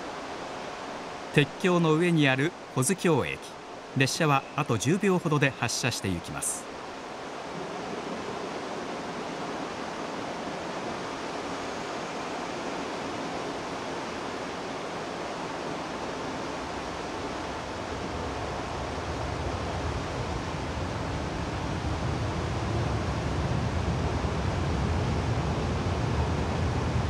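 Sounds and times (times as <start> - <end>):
river water rushing: 0.0 - 21.8.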